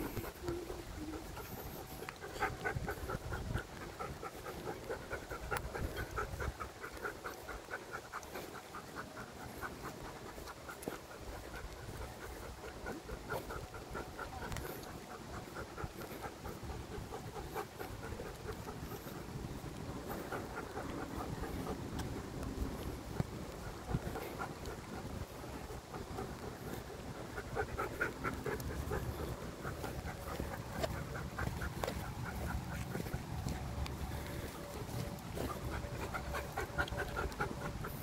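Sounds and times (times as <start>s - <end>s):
dog panting: 0.0s - 38.0s.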